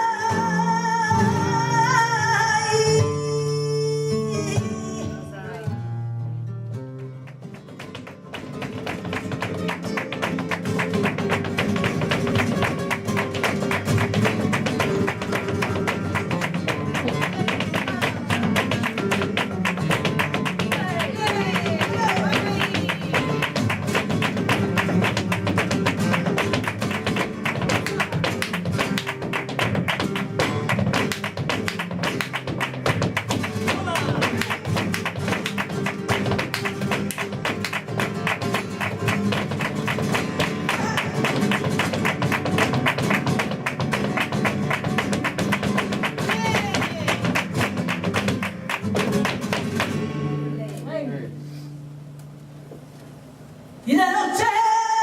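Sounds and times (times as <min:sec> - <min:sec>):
acoustic flamenco guitar: 0:00.0 - 0:55.0.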